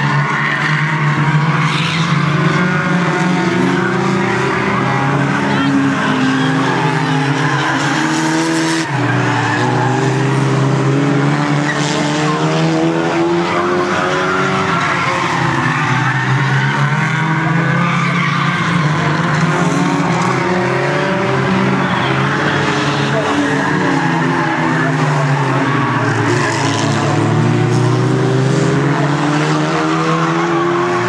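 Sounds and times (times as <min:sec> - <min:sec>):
race car engines running hard: 0:00.0 - 0:31.0.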